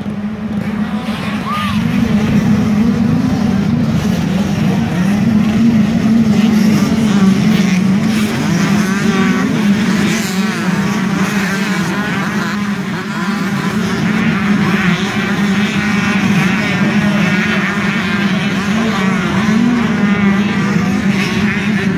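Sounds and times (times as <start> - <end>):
dirt bike engines buzzing and revving: 0.0 - 21.9.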